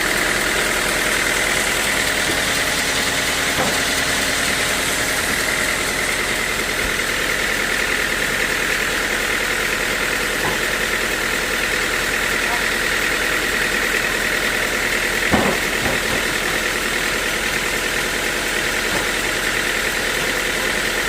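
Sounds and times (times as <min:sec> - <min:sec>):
sawmill machinery drone: 0:00.0 - 0:21.0.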